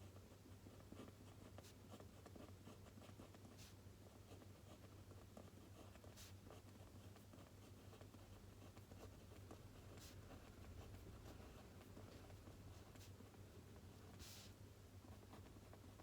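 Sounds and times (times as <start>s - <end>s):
pen scratching on paper: 0.7s - 16.0s.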